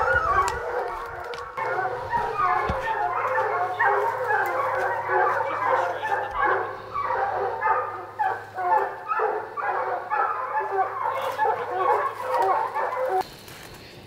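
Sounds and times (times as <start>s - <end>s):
hounds baying: 0.0s - 13.2s.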